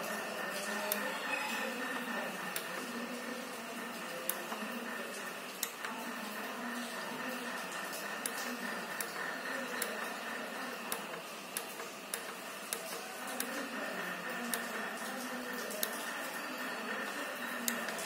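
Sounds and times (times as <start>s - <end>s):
power supply fan whir and whine: 0.0s - 18.0s.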